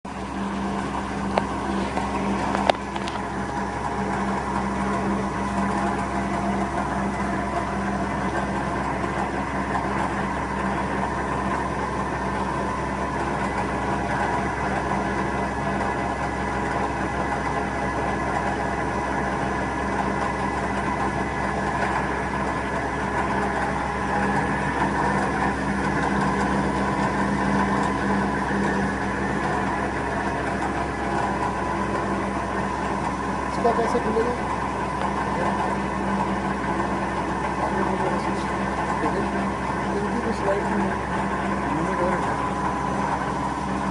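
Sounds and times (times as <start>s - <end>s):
lathe machine hum: 0.0s - 43.9s.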